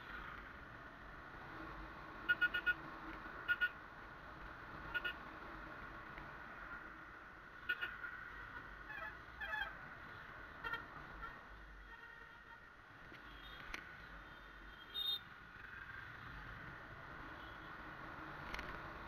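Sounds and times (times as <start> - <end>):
steady traffic hum: 0.0 - 19.0.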